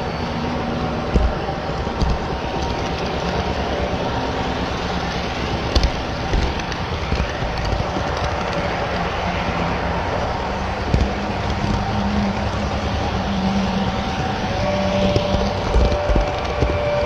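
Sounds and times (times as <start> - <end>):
model train rolling: 0.0 - 17.0
sharp track clicks: 0.8 - 17.0.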